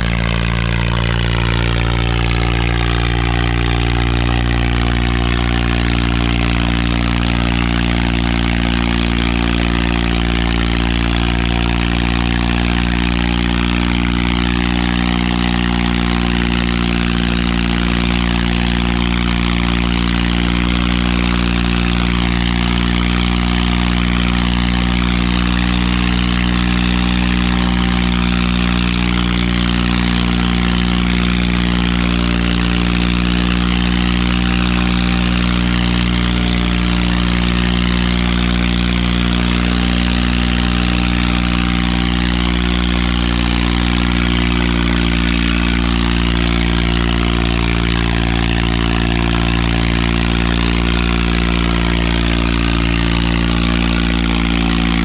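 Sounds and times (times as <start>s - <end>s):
tractor diesel engine running hard: 0.0s - 55.0s.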